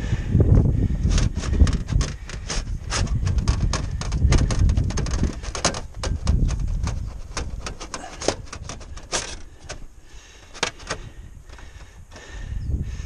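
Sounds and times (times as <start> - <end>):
wind buffeting microphone: 0.0 - 13.0
sheet metal clicking and crinkling: 0.8 - 12.4.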